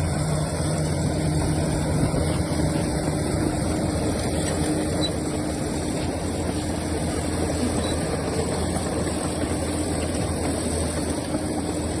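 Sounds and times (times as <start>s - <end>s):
diesel machinery engine running: 0.0s - 12.0s.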